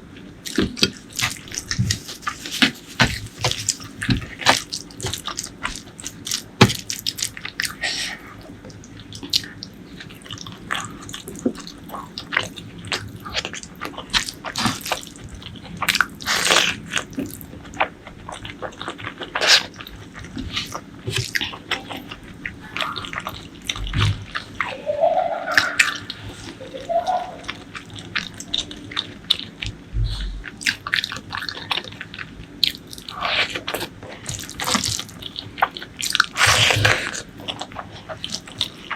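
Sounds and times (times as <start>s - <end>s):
wet chewing: 0.4s - 24.8s, 25.5s - 38.9s.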